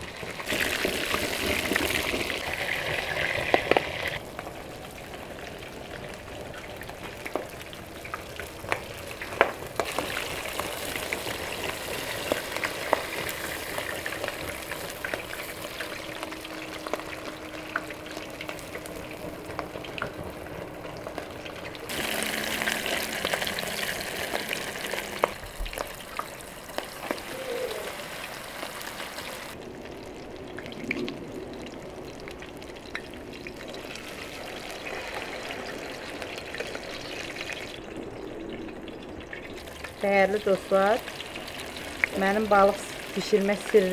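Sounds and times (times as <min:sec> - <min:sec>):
fish sizzling in oil: 0:00.0 - 0:43.9.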